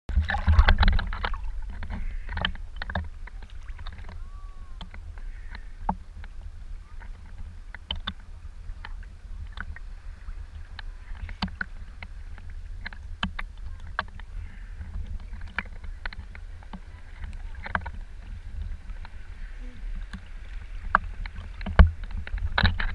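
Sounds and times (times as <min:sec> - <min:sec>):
low steady rumble: 0:00.1 - 0:22.9
sea water lapping and splashing: 0:00.1 - 0:22.9.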